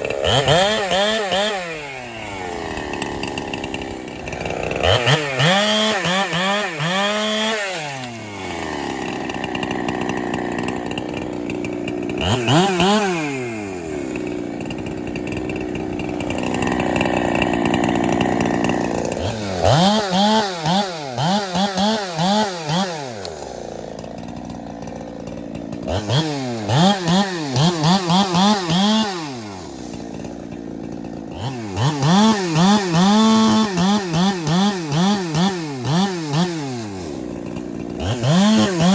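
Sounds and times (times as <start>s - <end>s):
chainsaw cutting and revving: 0.0s - 38.9s.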